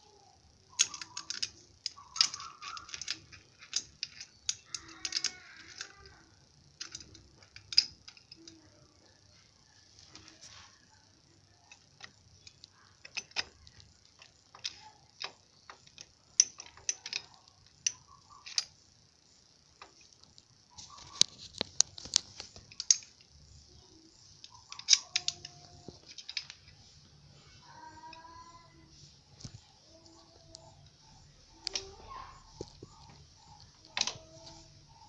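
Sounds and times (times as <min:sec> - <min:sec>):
hand tools clicking on metal: 0:00.6 - 0:08.7, 0:11.7 - 0:18.7, 0:19.8 - 0:26.8, 0:27.6 - 0:35.0.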